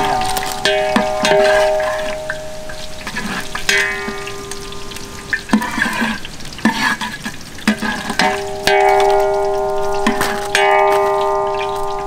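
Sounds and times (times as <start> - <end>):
ladle knocking on metal pot: 0.0 - 5.9, 7.6 - 12.0
ladle scraping in frying oil: 0.0 - 12.0.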